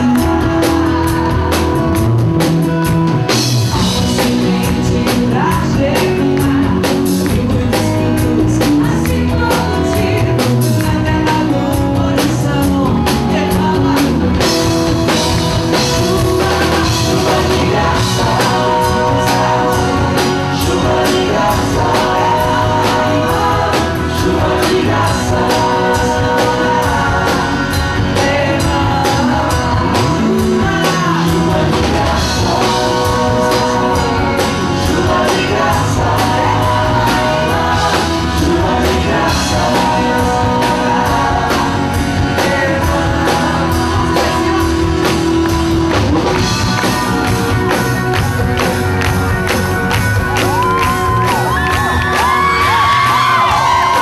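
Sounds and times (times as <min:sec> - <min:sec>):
pop-rock band playing: 0:00.0 - 0:54.0.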